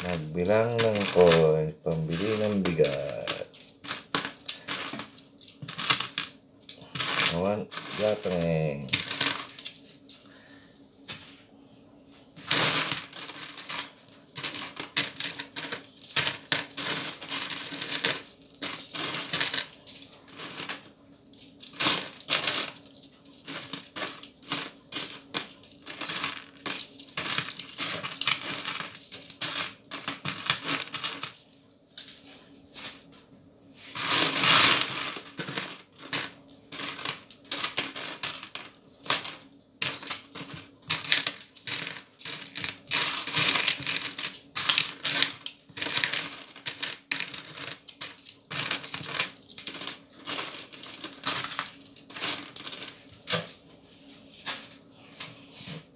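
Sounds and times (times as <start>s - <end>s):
coins clinking in plastic bowl: 0.0s - 10.1s, 12.4s - 32.2s, 34.0s - 53.4s, 54.4s - 54.8s
coins rattling in bowl: 0.0s - 10.2s, 12.4s - 33.1s, 34.0s - 53.3s, 54.4s - 54.8s.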